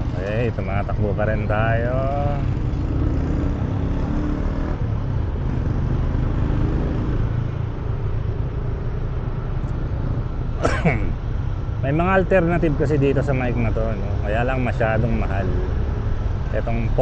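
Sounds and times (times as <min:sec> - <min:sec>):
motorcycle engine: 0:00.0 - 0:17.0
surrounding traffic: 0:00.0 - 0:17.0.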